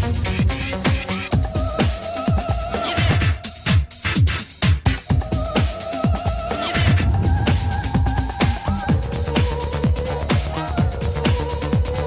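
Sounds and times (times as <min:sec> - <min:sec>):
techno kick drum: 0:00.0 - 0:12.0.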